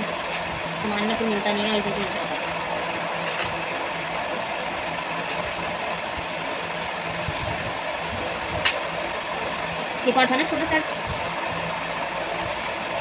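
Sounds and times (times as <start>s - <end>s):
motor humming and hissing: 0.0s - 13.0s.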